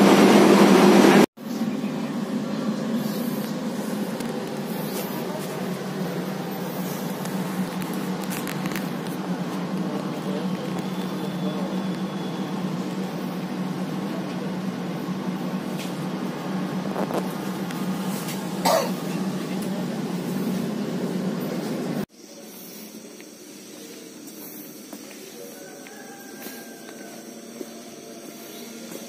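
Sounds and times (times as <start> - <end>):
train air conditioning hum: 0.0 - 29.0.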